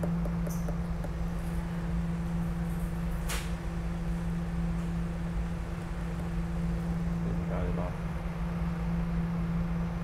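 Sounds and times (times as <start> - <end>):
rail car equipment humming: 0.0 - 10.0.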